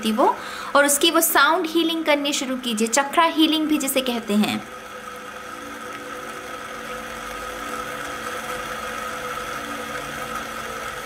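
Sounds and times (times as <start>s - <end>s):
mechanical whirring hum: 0.0s - 11.0s.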